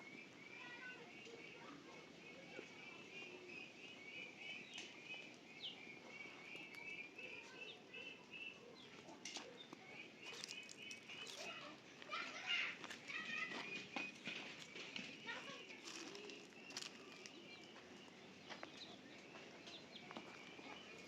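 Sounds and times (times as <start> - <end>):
small bird chirping: 0.1 - 21.0.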